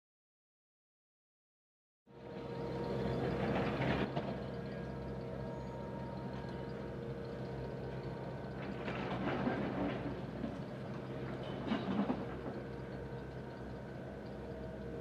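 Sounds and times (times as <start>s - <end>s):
tractor engine running: 2.1s - 15.0s.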